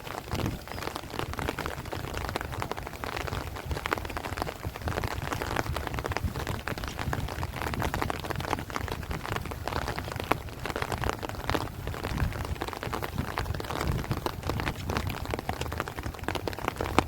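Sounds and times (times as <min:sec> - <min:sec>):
heavy rain on plants: 0:00.0 - 0:17.0
low wind rumble: 0:00.0 - 0:17.0.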